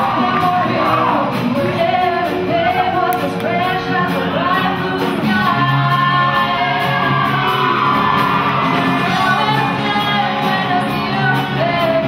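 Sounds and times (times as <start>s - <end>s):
rock band playing: 0.0s - 12.0s
woman singing: 0.0s - 12.0s.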